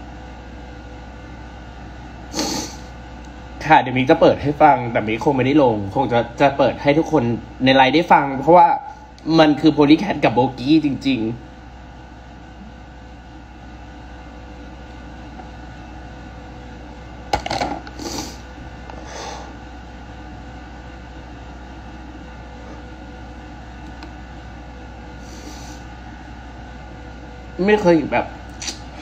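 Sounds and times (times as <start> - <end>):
room hum: 0.0 - 29.0.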